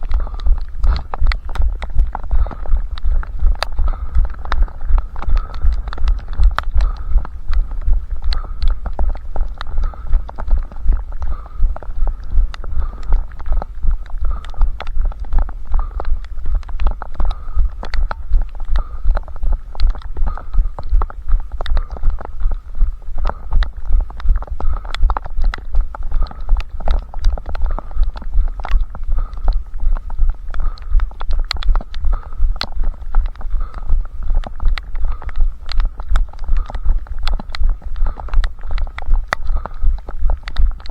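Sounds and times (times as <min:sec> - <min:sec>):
running footsteps on pavement: 0:00.0 - 0:40.9.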